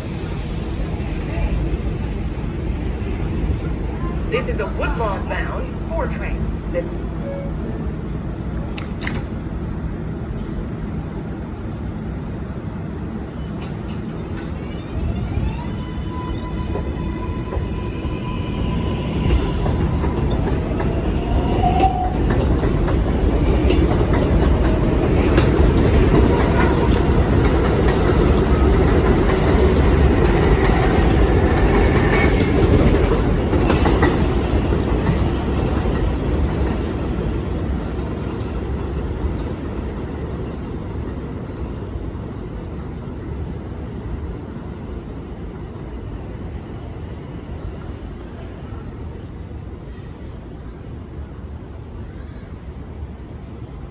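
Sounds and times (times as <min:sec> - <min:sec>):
subway train rumbling and clattering: 0:00.0 - 0:53.9.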